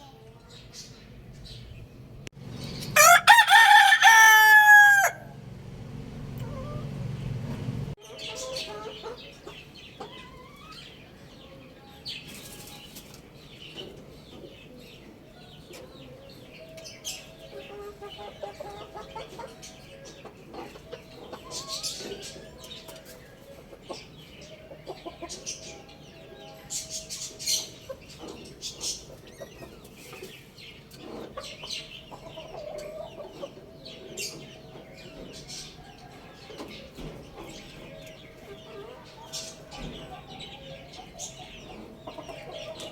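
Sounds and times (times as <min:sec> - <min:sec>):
chickens clucking: 0:02.4 - 0:42.9.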